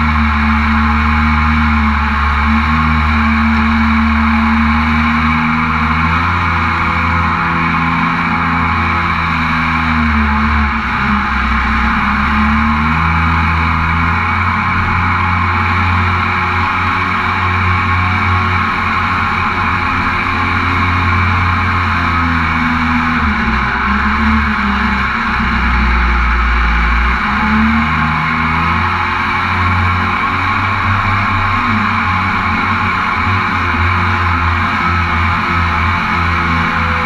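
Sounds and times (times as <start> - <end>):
jet boat engine running: 0.0 - 37.0.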